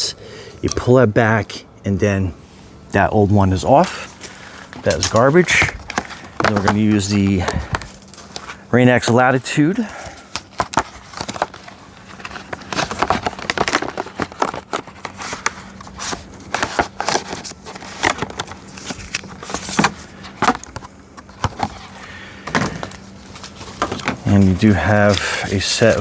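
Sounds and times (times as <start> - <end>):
packaging being handled and opened: 3.5 - 26.0.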